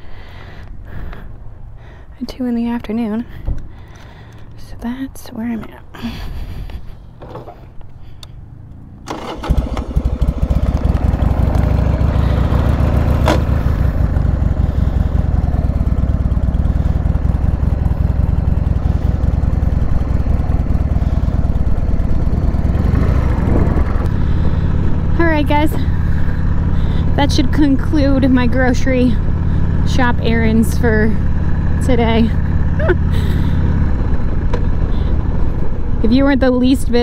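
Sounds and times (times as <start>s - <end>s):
motorcycle engine starting and running: 2.8s - 37.0s.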